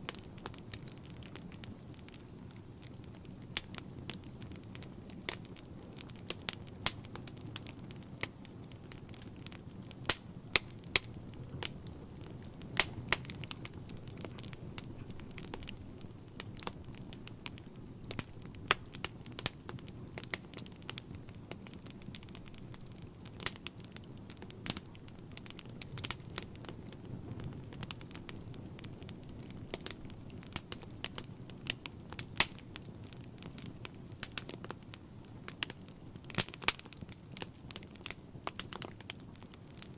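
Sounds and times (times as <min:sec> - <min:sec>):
fire crackling and popping: 0:00.0 - 0:39.9
low rush of flame: 0:00.0 - 0:39.9.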